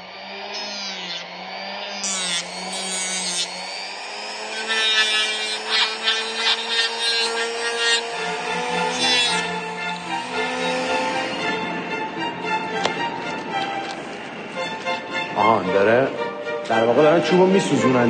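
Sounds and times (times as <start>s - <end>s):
power tool motor: 0.0s - 15.0s
wood scraping from cutting: 0.0s - 17.8s.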